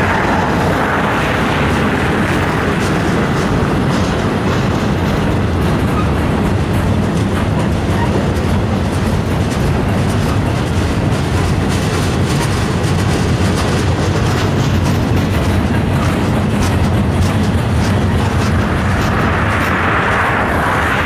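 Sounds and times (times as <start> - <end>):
steel wheels rumbling on rail: 0.0 - 21.0
wheels clicking over rail joints: 0.0 - 21.0.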